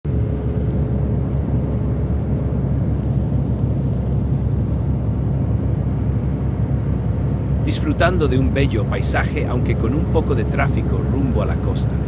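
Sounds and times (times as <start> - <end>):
car road and engine rumble: 0.1 - 12.0.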